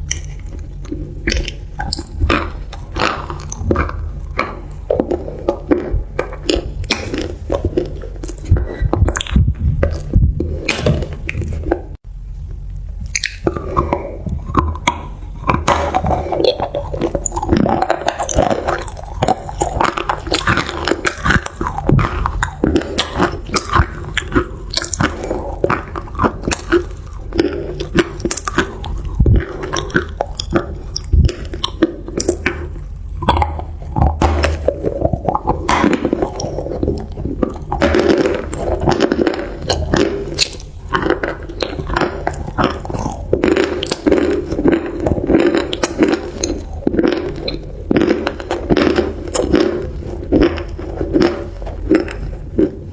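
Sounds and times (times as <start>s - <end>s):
chewing crunchy food: 0.0s - 52.9s.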